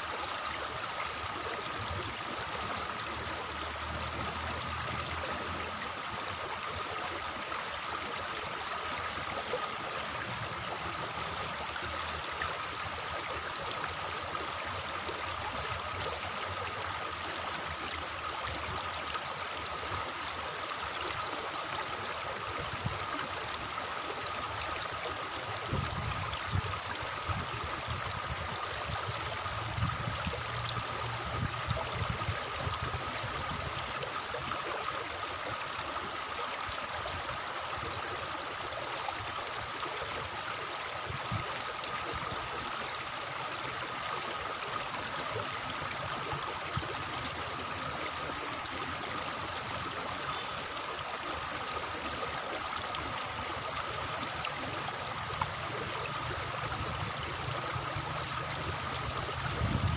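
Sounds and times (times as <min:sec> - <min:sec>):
water flowing in channel: 0:00.0 - 0:59.9.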